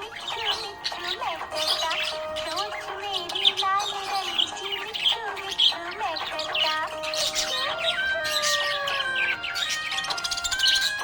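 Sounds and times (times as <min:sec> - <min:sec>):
budgerigar chirping and squawking: 0:00.0 - 0:11.0
music with held notes: 0:00.0 - 0:11.0.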